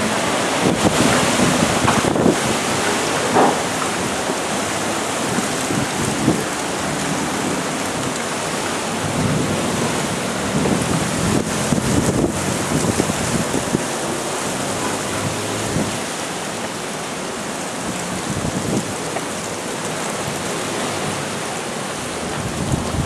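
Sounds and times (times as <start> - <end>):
heavy rain: 0.0 - 23.0
wind: 0.0 - 23.0.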